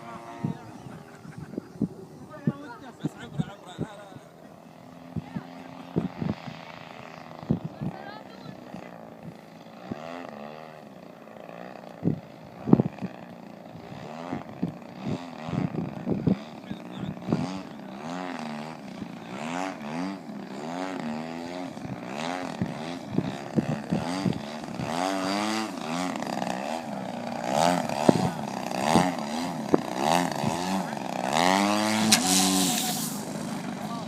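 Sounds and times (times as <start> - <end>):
model plane motor and propeller: 0.0 - 34.0.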